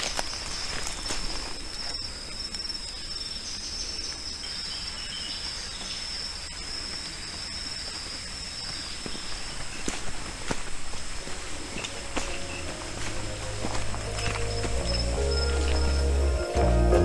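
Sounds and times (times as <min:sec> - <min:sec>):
higher insect call: 0:00.0 - 0:17.0
insect droning: 0:00.0 - 0:17.0.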